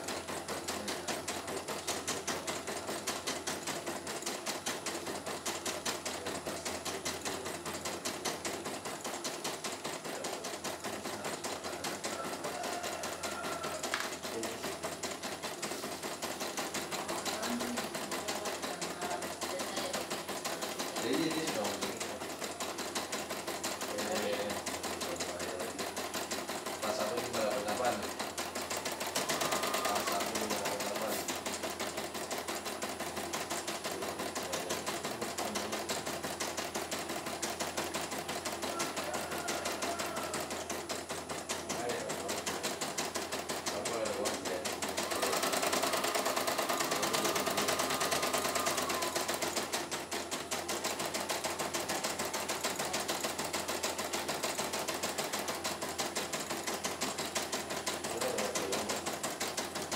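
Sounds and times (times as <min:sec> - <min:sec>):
embroidery machine stitching: 0:00.0 - 0:59.9.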